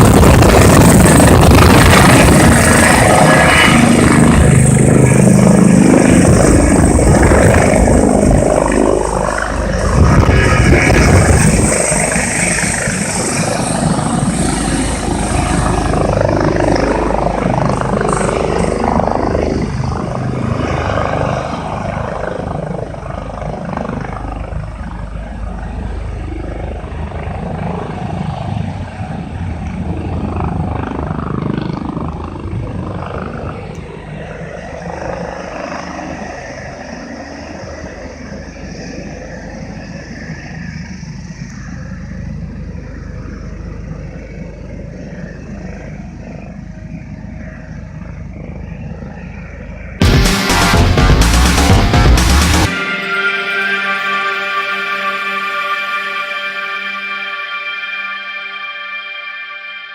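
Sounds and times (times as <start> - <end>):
helicopter rotors and engine: 0.0 - 59.9.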